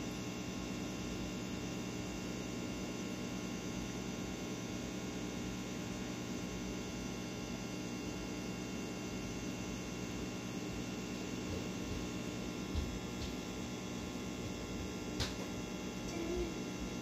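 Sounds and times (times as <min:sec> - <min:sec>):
aquarium equipment hum: 0:00.0 - 0:17.0.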